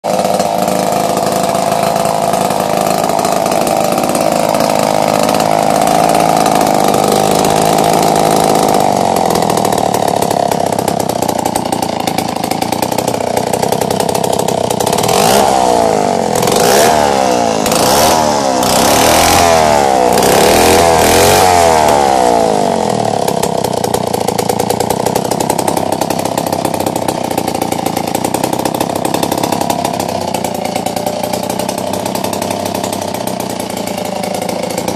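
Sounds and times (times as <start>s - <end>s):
chainsaw engine revving and idling: 0.0s - 34.9s.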